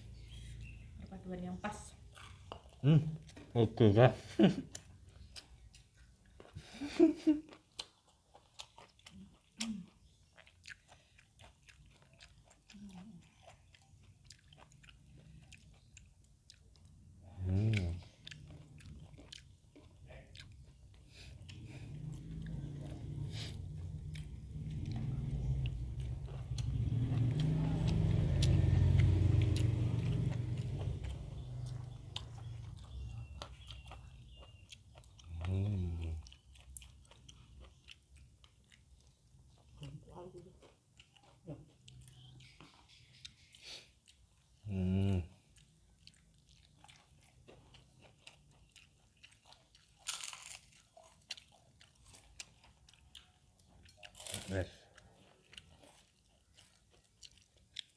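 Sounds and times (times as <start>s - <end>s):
chewing and biting food: 0.0s - 57.9s.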